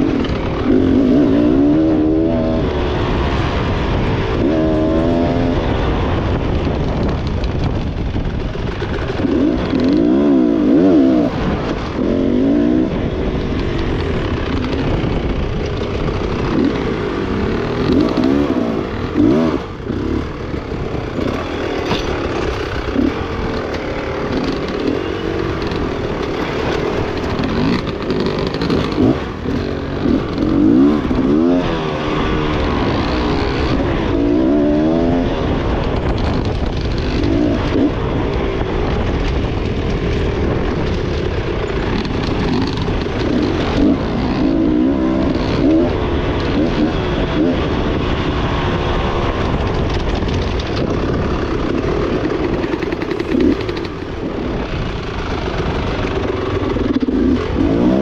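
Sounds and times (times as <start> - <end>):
dirt bike engine revving: 0.0 - 58.0
wind on microphone: 0.0 - 58.0.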